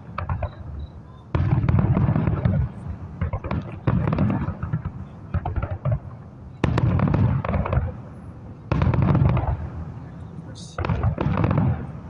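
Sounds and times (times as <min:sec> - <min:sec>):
fireworks bursting: 0:00.0 - 0:12.0
fireworks crackling: 0:00.0 - 0:12.0.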